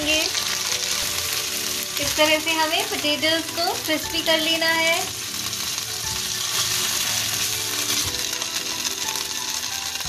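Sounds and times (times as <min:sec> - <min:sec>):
potatoes sizzling in hot oil: 0:00.0 - 0:10.0.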